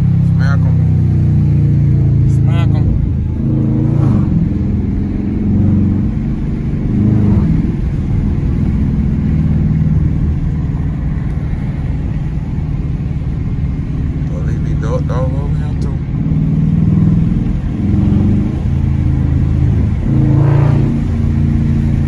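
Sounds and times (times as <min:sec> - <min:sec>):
deep car exhaust drone: 0:00.0 - 0:22.0.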